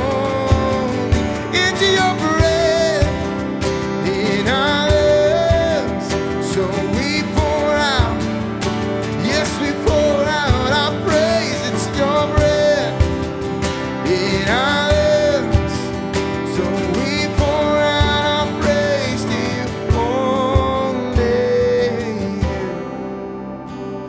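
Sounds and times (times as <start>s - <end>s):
person singing: 0.0s - 23.1s
worship band music: 0.0s - 24.0s.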